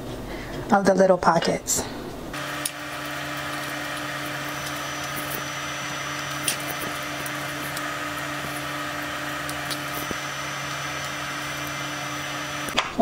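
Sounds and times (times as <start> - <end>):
machine motor hum: 2.3 - 12.8.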